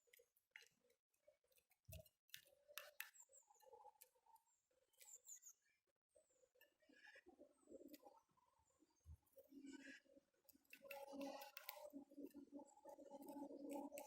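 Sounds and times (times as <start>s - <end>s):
small birds chirping: 1.5s - 14.0s.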